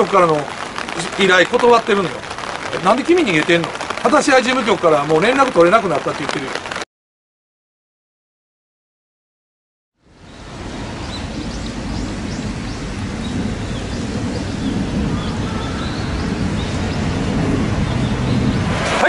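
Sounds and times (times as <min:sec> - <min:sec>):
wind: 0:00.0 - 0:06.8, 0:10.0 - 0:19.0
rain: 0:00.0 - 0:06.9, 0:10.0 - 0:19.0.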